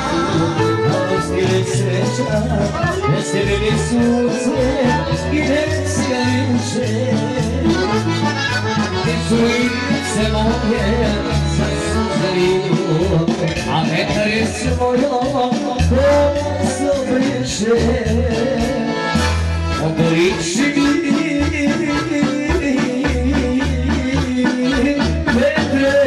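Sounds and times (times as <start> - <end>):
folk dance music: 0.0 - 26.0
person singing: 0.0 - 26.0.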